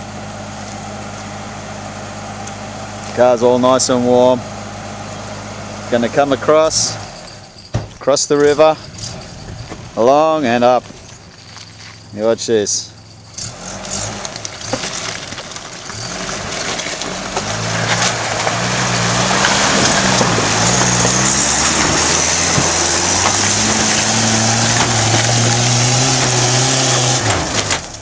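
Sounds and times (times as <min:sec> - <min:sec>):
truck engine under load: 0:00.0 - 0:28.0
tyres crunching over gravel: 0:02.4 - 0:04.4, 0:05.3 - 0:28.0.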